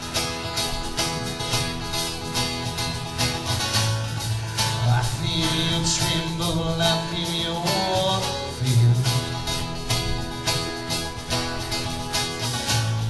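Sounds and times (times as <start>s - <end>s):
live bluegrass band: 0.0s - 13.0s.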